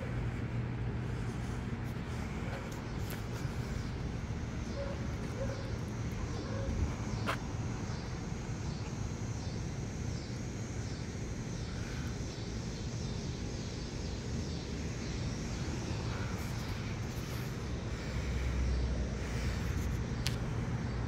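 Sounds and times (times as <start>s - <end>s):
faint pulsing high-pitched buzz: 0.0s - 21.0s.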